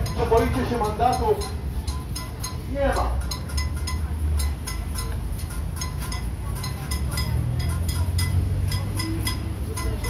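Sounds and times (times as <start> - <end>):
bells ringing: 0.0 - 10.0.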